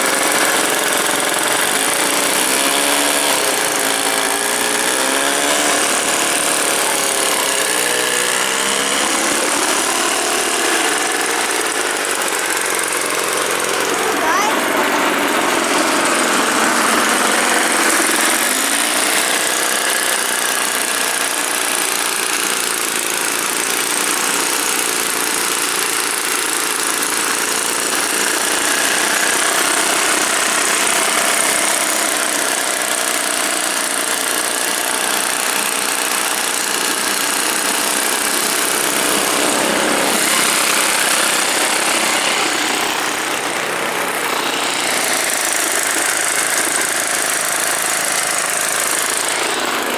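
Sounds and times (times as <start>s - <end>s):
two-stroke engine running: 0.0s - 49.9s.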